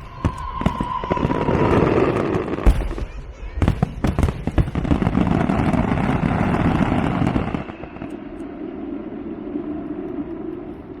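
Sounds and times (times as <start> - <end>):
steady background din: 0.0 - 10.0
fireworks crackling: 0.0 - 10.7.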